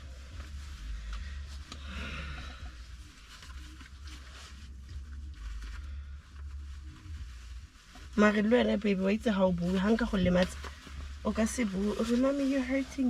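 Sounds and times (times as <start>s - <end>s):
clothing rustling: 0.0s - 13.0s
steady low rumble: 0.0s - 13.0s.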